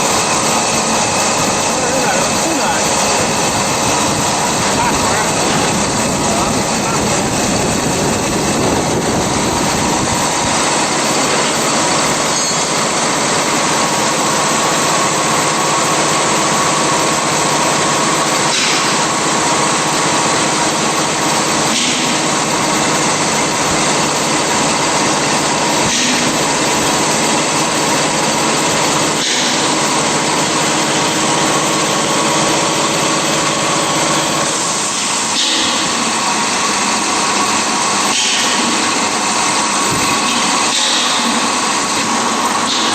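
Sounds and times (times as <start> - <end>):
dense mechanical noise: 0.0 - 42.9
machine motor hum and whine: 0.0 - 42.9.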